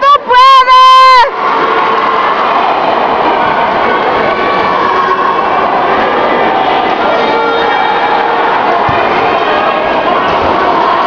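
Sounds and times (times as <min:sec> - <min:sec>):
crowd chatter in large hall: 0:00.0 - 0:11.0.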